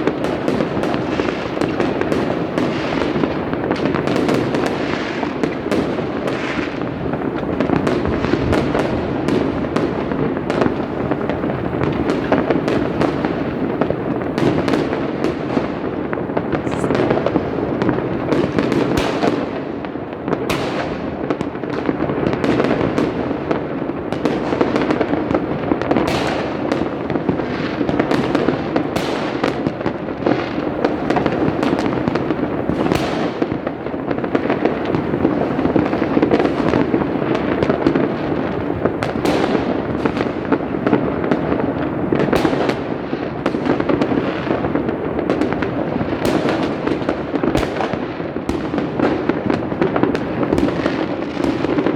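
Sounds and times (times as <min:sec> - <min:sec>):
fireworks booming and crackling: 0:00.0 - 0:51.9
sharp firework bangs: 0:00.0 - 0:51.9.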